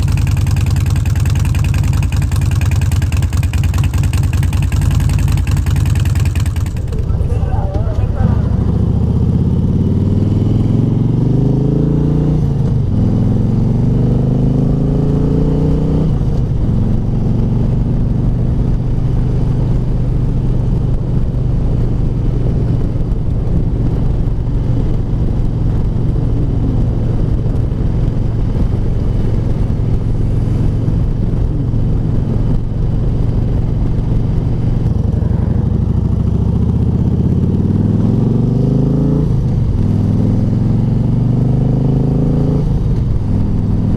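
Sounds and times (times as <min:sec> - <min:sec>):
motorcycle engine revving: 0:00.0 - 0:20.1, 0:25.6 - 0:43.9.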